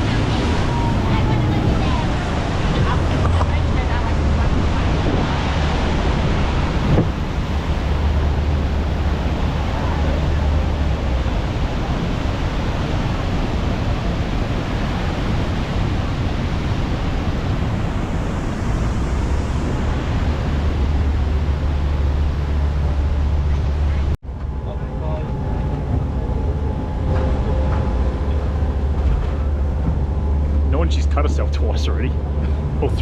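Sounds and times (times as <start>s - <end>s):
rushing water roar: 0.0s - 33.0s.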